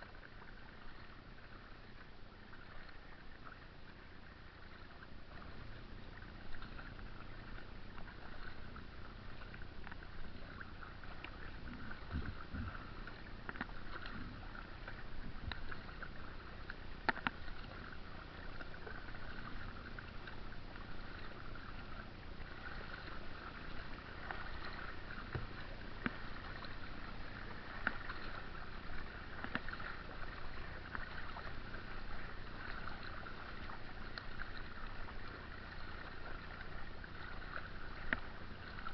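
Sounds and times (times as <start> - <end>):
water splashing along kayak hull: 0.0 - 38.9.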